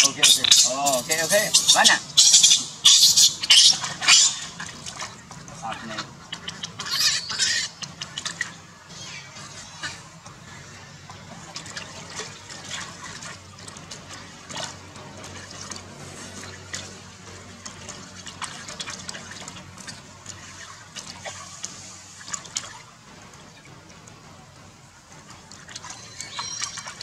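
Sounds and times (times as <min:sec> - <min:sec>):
water splashing in plastic tub: 0:00.0 - 0:27.0.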